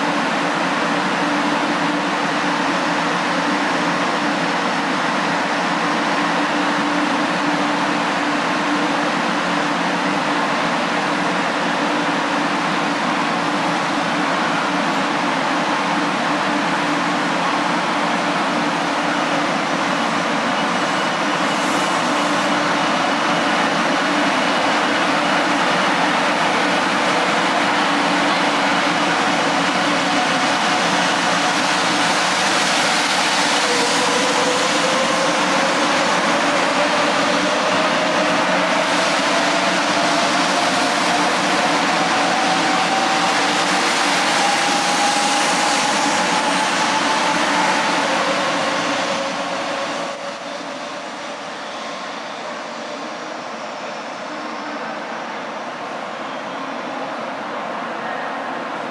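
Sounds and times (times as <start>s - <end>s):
bullet train running noise: 0.0s - 58.9s.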